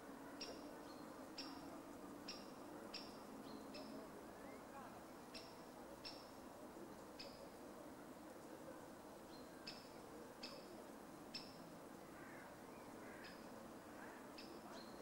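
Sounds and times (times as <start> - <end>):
woodland background hiss: 0.0 - 15.0.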